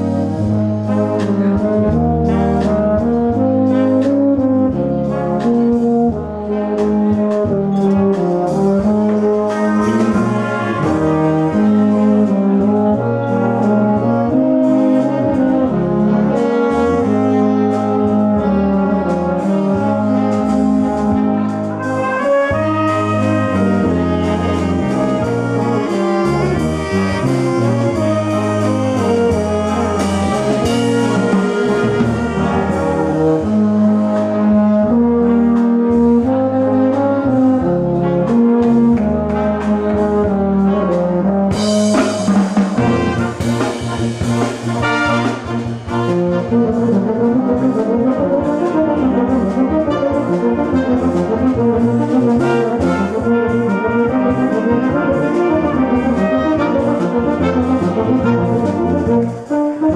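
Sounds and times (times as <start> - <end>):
tuba solo: 0.0 - 59.9
wind band playing: 0.0 - 59.9.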